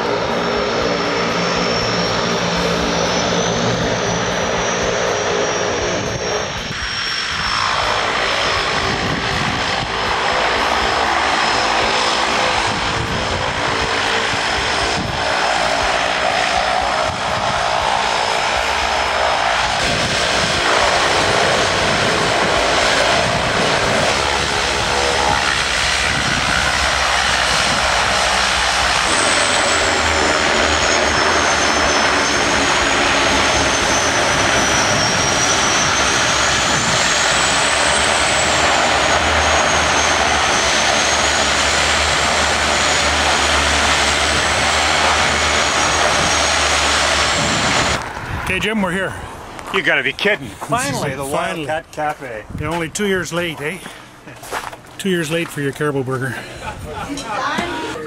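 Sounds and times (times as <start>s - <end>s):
thin high wavering whine: 0.0s - 48.2s
turboprop engines running: 0.0s - 58.0s.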